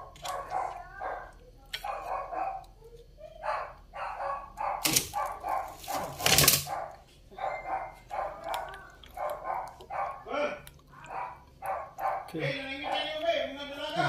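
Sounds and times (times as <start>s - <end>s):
dog barking: 0.0s - 2.8s, 3.4s - 10.3s, 11.0s - 13.2s.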